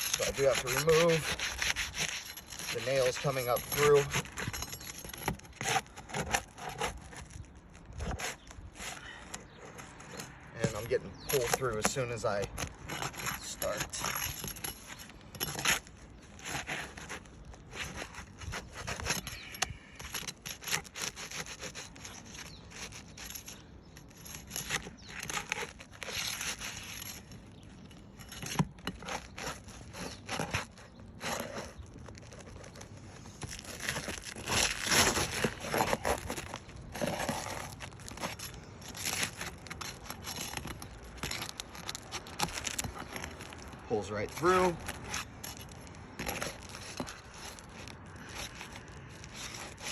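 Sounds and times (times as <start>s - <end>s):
roof shingle scraping and tearing: 0.0s - 49.9s.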